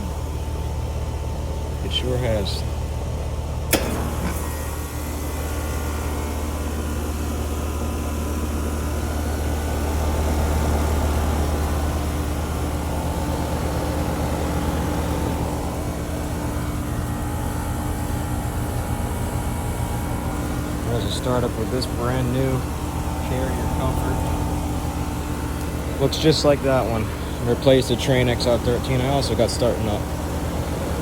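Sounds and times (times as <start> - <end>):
heat pump compressor and fan hum: 0.0 - 31.0.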